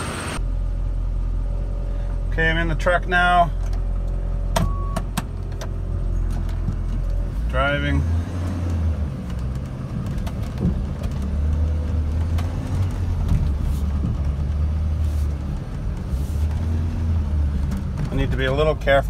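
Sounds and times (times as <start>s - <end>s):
truck engine low hum: 0.0s - 19.0s.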